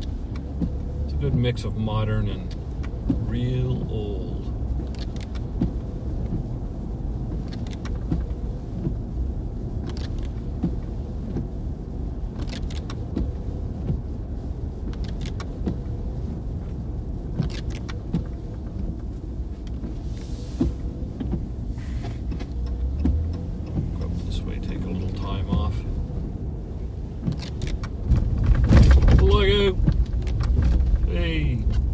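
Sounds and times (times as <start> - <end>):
car engine and tyres rumbling: 0.0 - 31.9.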